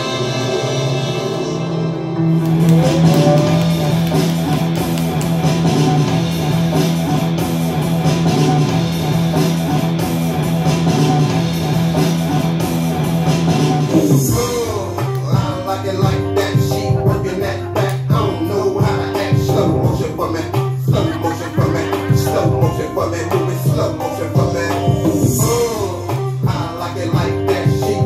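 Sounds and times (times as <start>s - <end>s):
guitar-led music with bass line: 2.1s - 28.0s.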